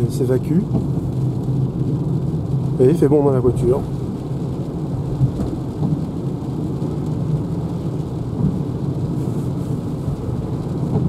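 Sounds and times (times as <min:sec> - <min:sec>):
road and tyre noise in car cabin: 0:00.0 - 0:11.0.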